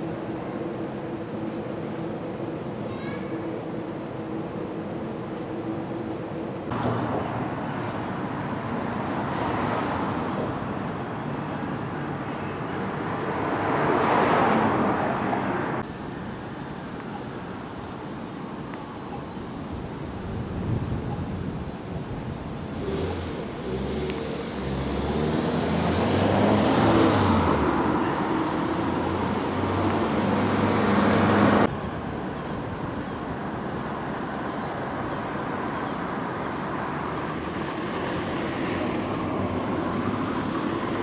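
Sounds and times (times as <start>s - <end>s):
road traffic: 0.0s - 41.0s
steady traffic hum: 0.0s - 41.0s.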